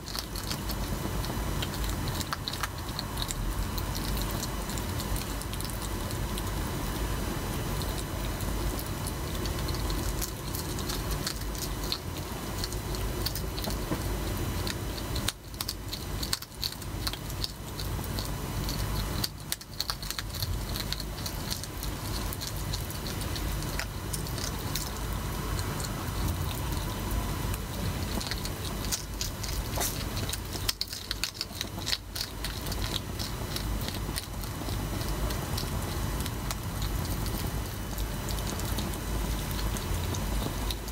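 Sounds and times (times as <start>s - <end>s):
animals crunching dry food: 0.0s - 40.9s
faint hum: 0.0s - 40.9s.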